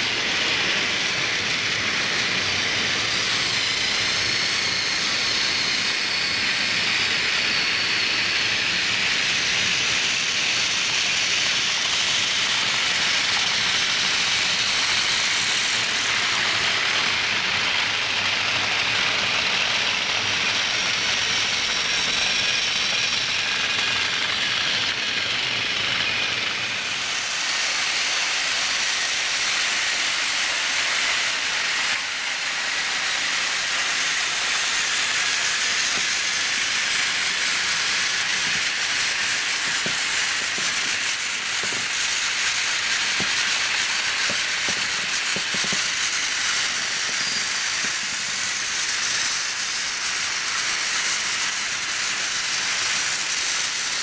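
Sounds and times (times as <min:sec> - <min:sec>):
toy train motors whirring: 0:00.0 - 0:54.0.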